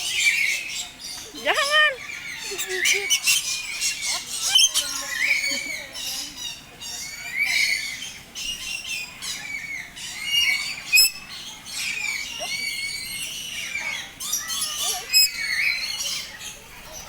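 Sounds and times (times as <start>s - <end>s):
flock of birds chirping: 0.0s - 17.0s
sharp loud bird calls: 0.0s - 17.0s.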